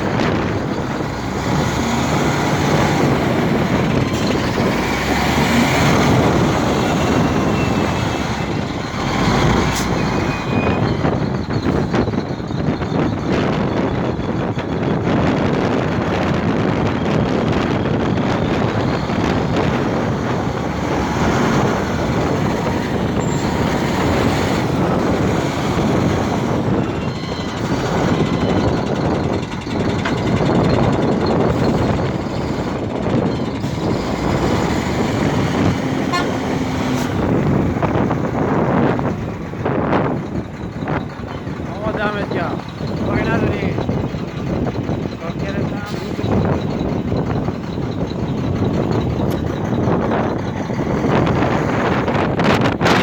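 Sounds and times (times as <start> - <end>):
truck engines running: 0.0 - 53.0
wind buffeting microphone: 0.0 - 53.0.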